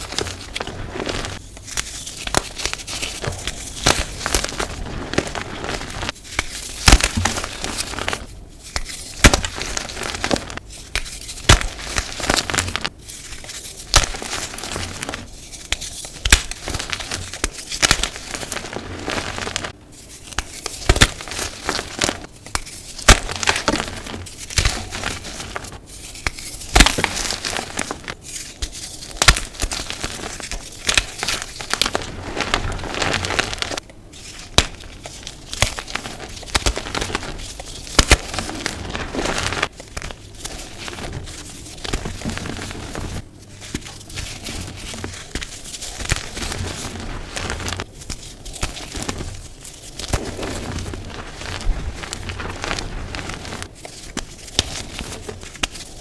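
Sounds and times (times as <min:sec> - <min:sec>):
chalk blocks crunching: 0:00.0 - 0:56.0.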